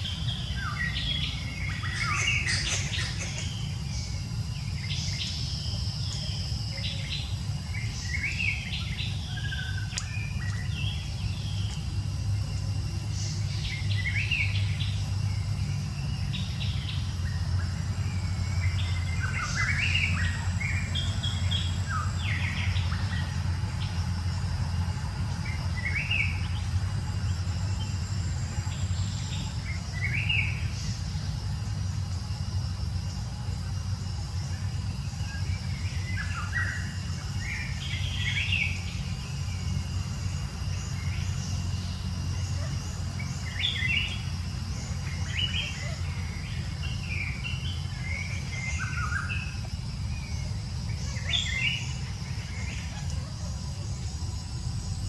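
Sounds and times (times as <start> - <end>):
birds chirping: 0.0 - 55.0
steady low rumble: 0.0 - 55.0.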